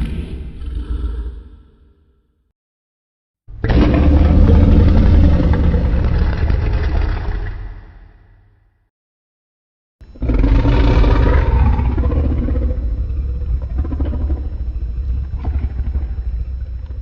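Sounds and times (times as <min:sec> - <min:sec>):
deep rumbling monster growl: 0:00.0 - 0:02.0, 0:03.5 - 0:08.4, 0:10.0 - 0:17.0.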